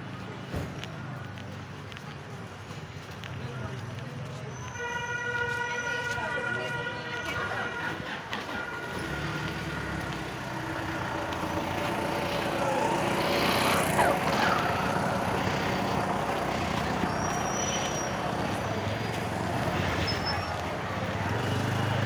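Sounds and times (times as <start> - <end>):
passing road traffic: 0.0 - 22.0.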